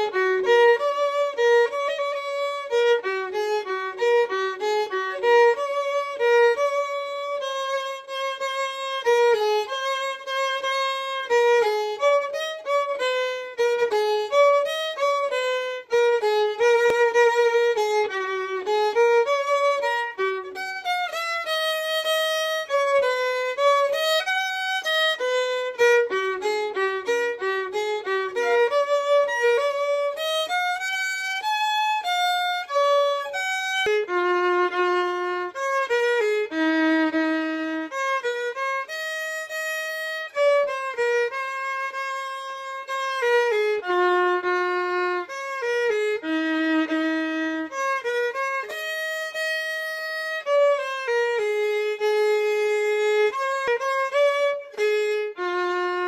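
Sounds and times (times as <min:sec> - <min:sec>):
solo fiddle playing: 0:00.0 - 0:56.0.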